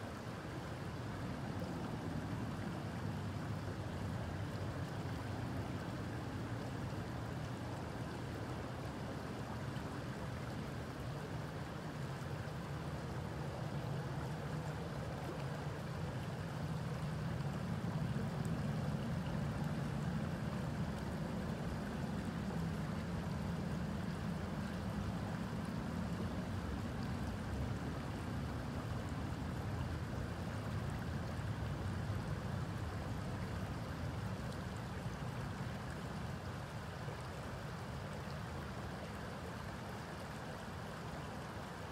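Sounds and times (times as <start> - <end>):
creek water flowing: 0.0 - 41.9.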